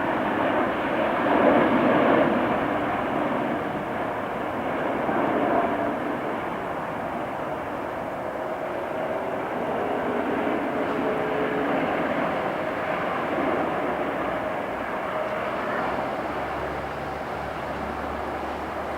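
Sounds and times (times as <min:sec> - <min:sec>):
jet engines landing: 0:00.0 - 0:18.9.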